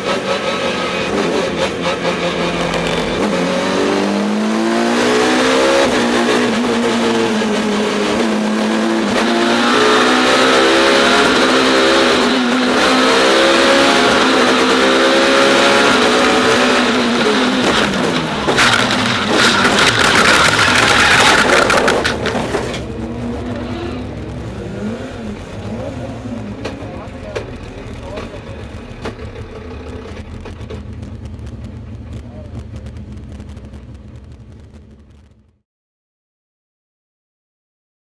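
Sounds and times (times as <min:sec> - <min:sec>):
race car engine revving: 0:00.0 - 0:35.4
road and wind noise: 0:00.0 - 0:35.6.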